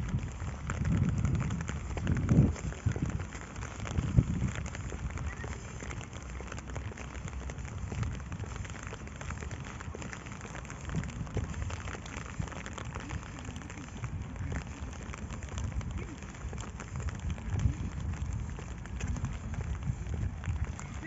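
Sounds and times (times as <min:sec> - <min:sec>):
low rumble: 0:00.0 - 0:21.0
rain falling: 0:00.0 - 0:21.0.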